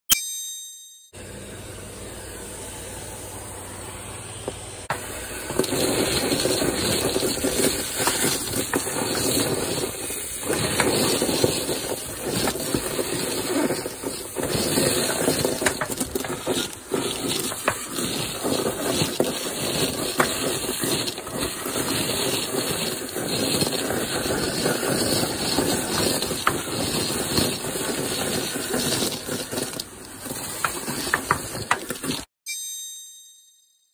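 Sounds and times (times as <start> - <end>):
gutter vacuum rushing hiss: 1.2 - 32.3
debris clicking up a hose: 4.9 - 32.3.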